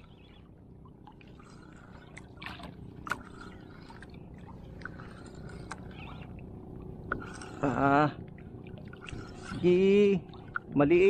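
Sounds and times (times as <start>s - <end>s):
water washing against hull: 0.0s - 11.0s.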